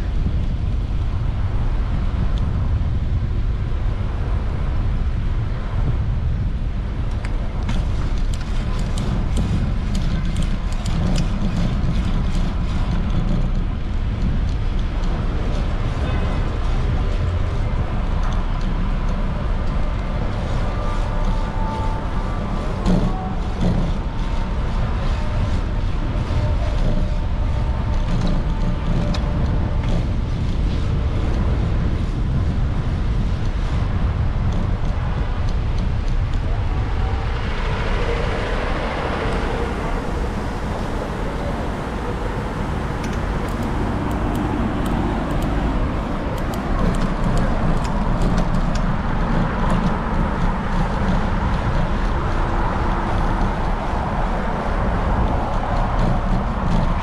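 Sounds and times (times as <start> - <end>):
cars passing: 0.0 - 57.0
steady low traffic rumble: 0.0 - 57.0.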